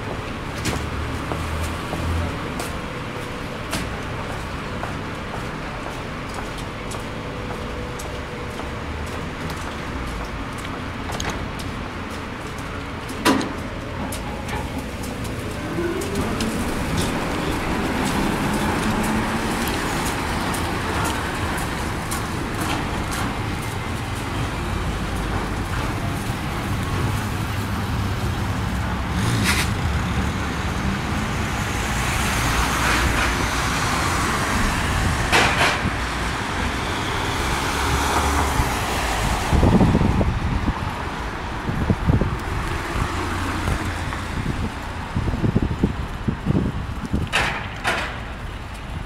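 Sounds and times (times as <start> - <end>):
low traffic rumble: 0.0 - 49.0.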